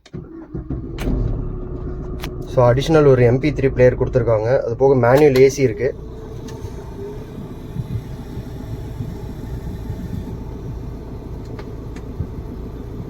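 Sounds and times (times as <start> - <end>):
diesel engine idling: 0.1 - 13.0.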